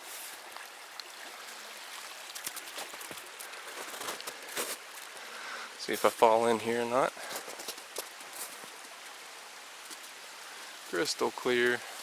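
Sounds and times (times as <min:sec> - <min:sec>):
creek water rushing down waterfall: 0:00.0 - 0:12.0.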